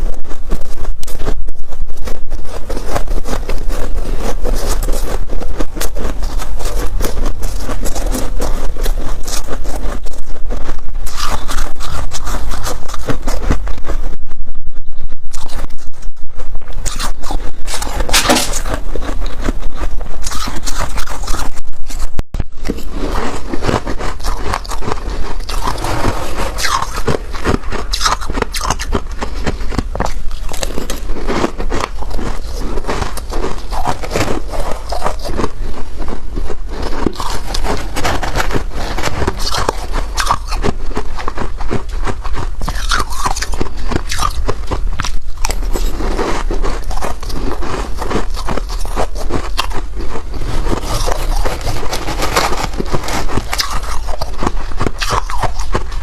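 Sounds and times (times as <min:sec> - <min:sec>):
frost being scraped and crunched: 0:00.0 - 0:56.0.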